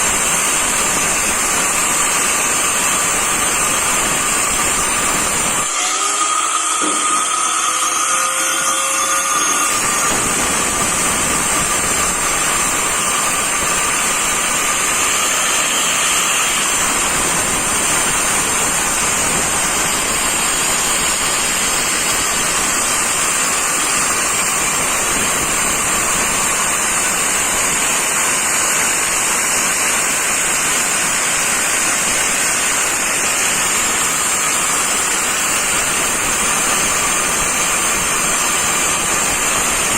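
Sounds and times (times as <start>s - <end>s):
angle grinder cutting masonry: 0.0s - 39.9s
motor whine: 0.0s - 39.9s.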